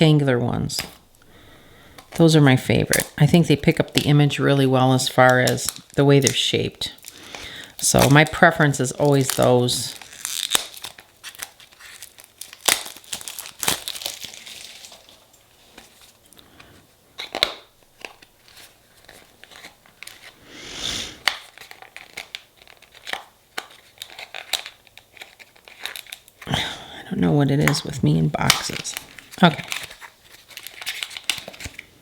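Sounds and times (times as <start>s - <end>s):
packaging rustling: 0.8s - 20.5s, 21.1s - 26.7s, 27.4s - 32.0s
packaging crinkling and tearing: 1.9s - 20.4s, 21.1s - 32.0s.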